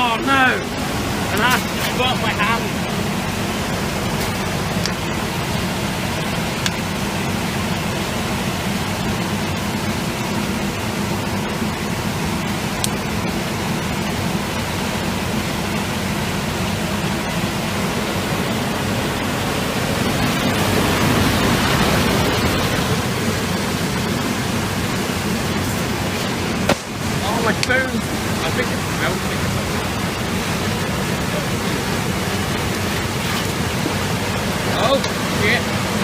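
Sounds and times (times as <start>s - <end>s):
blower rushing air: 0.0s - 36.0s.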